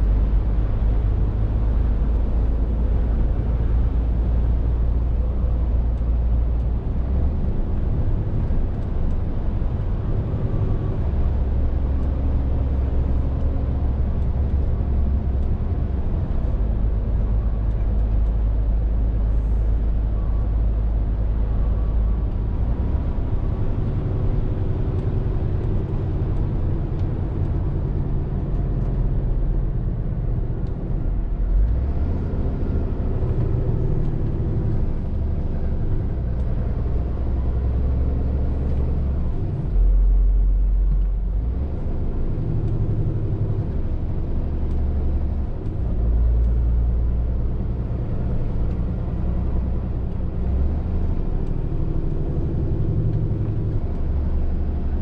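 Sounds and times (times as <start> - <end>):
lorry diesel engine droning: 0.0 - 55.0.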